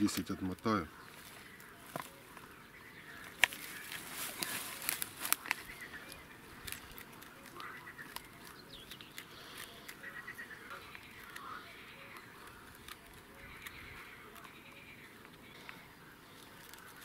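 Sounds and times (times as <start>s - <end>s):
fishing tackle clicking and rustling: 3.2s - 17.0s.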